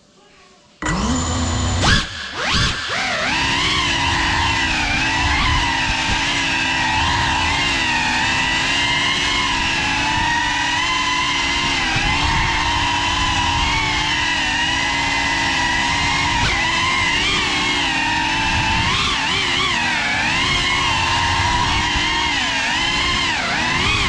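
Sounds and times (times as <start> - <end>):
drone motors whining: 0.8 - 24.0.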